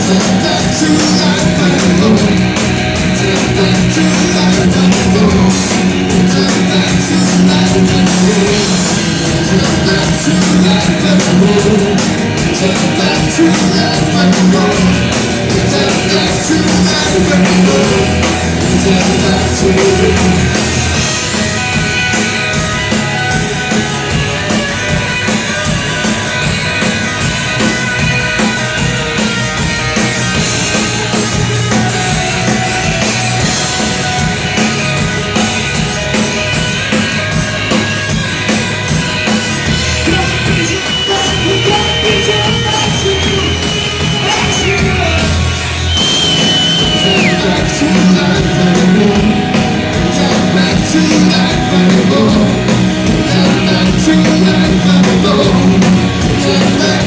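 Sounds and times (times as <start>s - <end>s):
driving drum beat: 0.0s - 57.0s
electric guitars: 0.0s - 57.0s.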